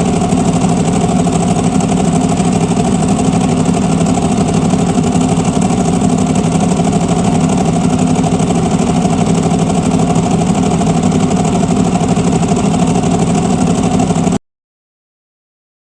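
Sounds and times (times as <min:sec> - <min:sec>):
clutch rattling: 0:00.0 - 0:14.2
motorcycle engine idling: 0:00.0 - 0:14.4.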